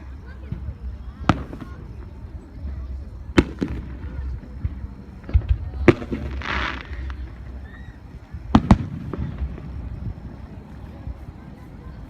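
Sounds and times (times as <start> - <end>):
firework hiss: 0.0 - 12.0
firework bangs: 0.1 - 12.0.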